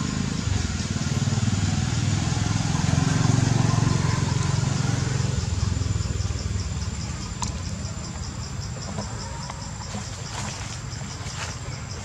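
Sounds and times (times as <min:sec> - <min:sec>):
engine running with pulsing hum: 0:00.0 - 0:12.0
insect chirping: 0:00.0 - 0:12.0.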